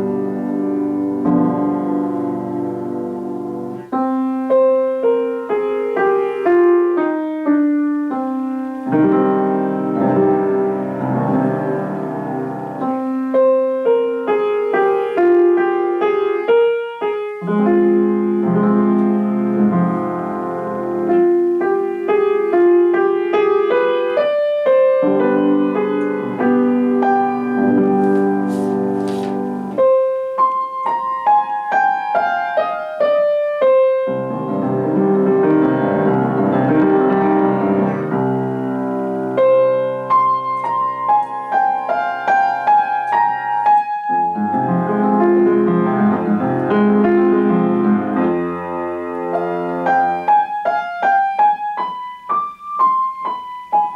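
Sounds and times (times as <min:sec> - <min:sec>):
solo piano playing: 0:00.0 - 0:53.9.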